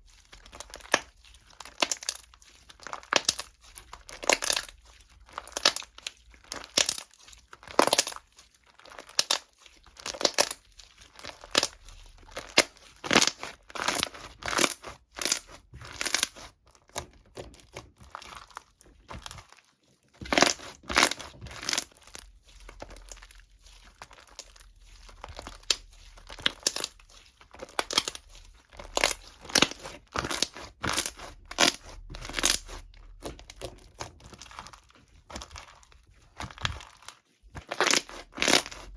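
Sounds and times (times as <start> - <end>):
crinkling and rustling: 0.0 - 38.9.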